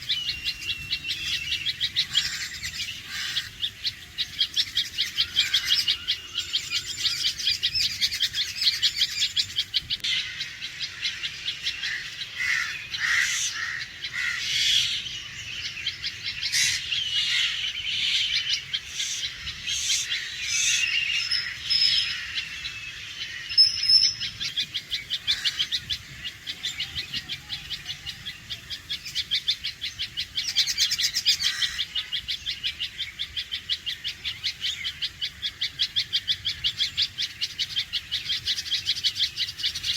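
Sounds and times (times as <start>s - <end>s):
bird alarm calls: 0.0s - 39.9s.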